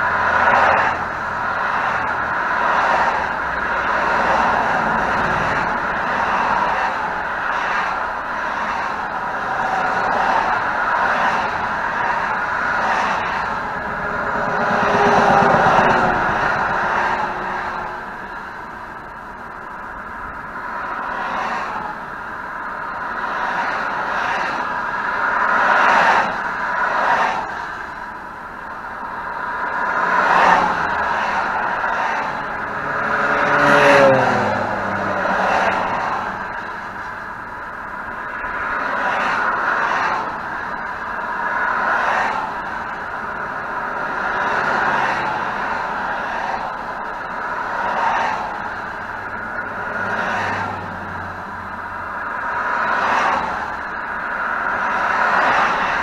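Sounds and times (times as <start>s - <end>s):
highway traffic rushing past: 0.0s - 56.0s.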